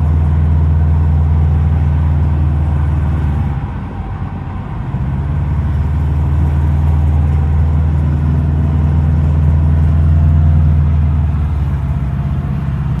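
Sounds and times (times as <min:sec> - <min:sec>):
car engine running steadily: 0:00.0 - 0:13.0.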